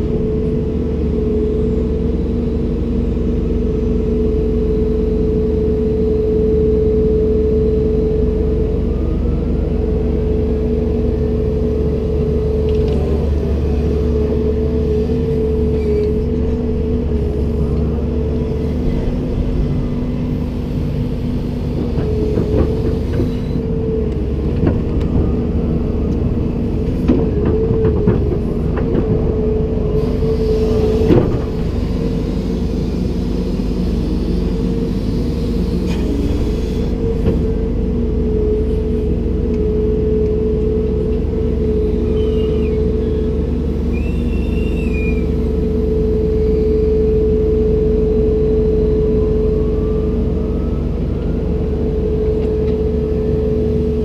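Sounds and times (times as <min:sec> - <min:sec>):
excavator engine and hydraulics humming: 0:00.0 - 0:54.0.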